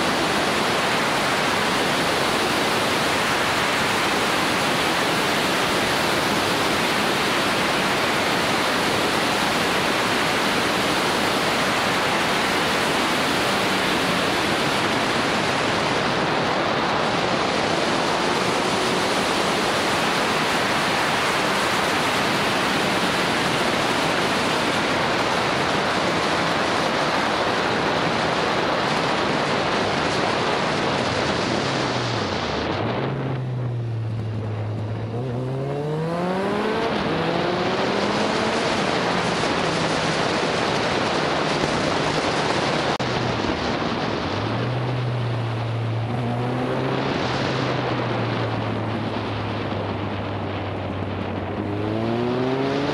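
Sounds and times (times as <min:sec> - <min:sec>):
wind rushing over microphone: 0:00.0 - 0:52.9
motorcycle engine: 0:00.1 - 0:25.5, 0:32.1 - 0:52.9.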